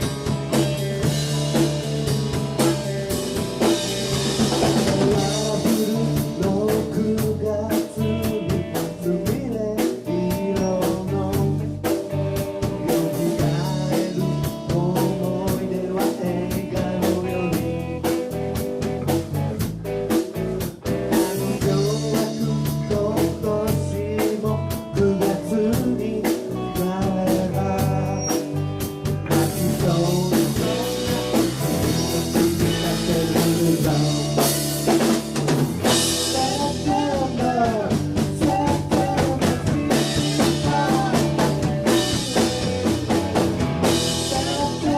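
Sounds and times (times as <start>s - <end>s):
drum kit: 0.0s - 44.9s
electric guitar: 0.0s - 44.9s
live rock band playing: 0.0s - 44.9s
person singing: 4.6s - 18.2s, 21.0s - 34.7s, 36.1s - 44.9s.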